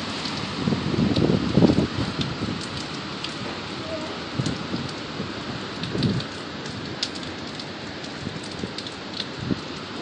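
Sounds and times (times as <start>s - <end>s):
low rush of wind: 0.0s - 10.0s
rain hissing: 0.0s - 10.0s.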